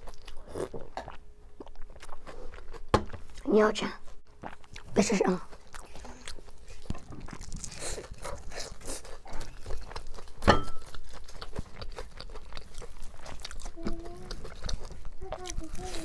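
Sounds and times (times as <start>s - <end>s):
crunchy biting and chewing: 0.0s - 3.5s, 4.3s - 16.0s.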